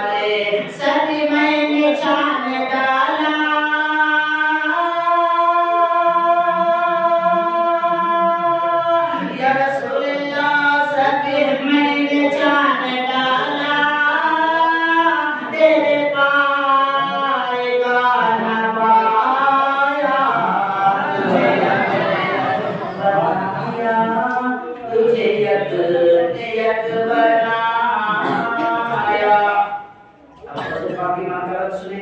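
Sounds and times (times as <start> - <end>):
man singing unaccompanied: 0.0 - 22.4, 23.0 - 29.9.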